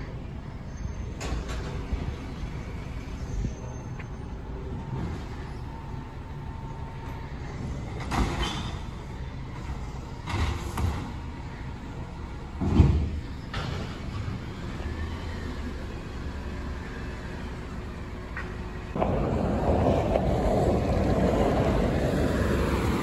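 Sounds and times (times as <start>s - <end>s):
garbage truck engine rumble: 0.0s - 23.0s.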